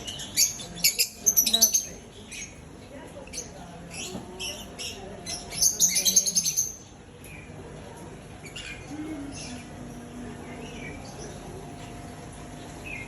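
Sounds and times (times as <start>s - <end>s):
lovebirds chirping and chattering: 0.0s - 13.0s.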